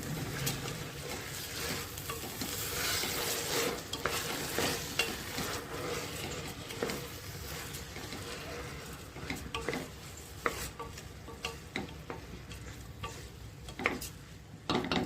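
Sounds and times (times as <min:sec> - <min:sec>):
food sizzling in a pan: 0:00.0 - 0:14.4.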